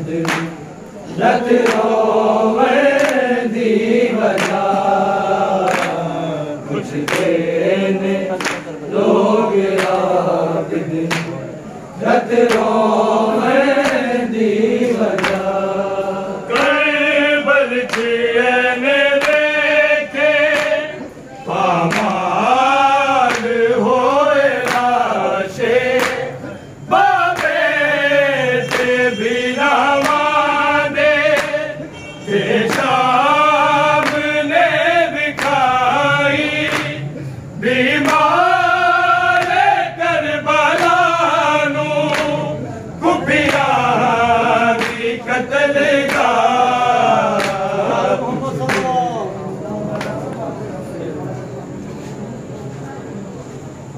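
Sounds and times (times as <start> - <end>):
men chanting in unison: 0.0 - 50.8.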